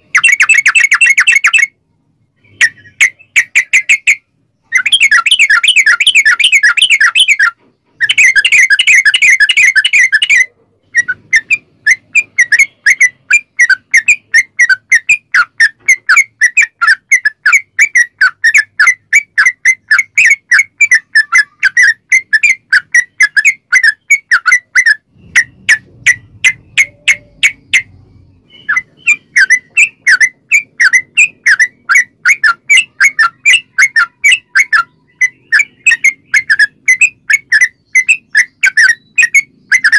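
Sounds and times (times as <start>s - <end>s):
bird rolling chatter: 2.5s - 39.9s.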